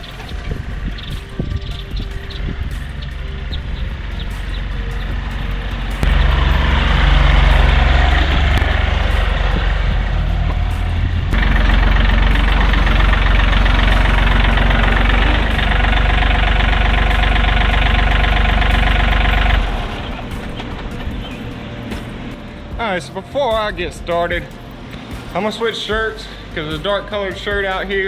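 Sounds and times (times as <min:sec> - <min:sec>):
tractor diesel engine running: 0:00.0 - 0:27.7.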